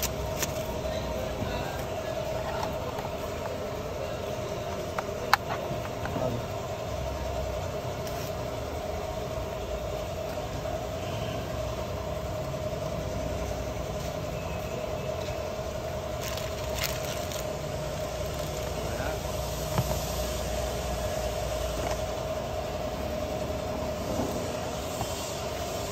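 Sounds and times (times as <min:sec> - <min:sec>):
steady mechanical hum: 0:00.0 - 0:25.9.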